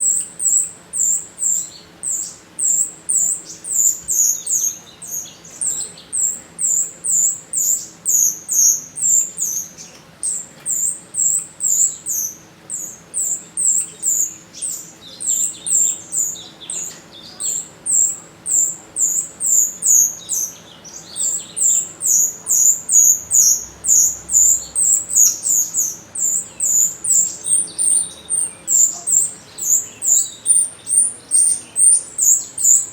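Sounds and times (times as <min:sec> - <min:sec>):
starling calling: 0:00.0 - 0:32.9.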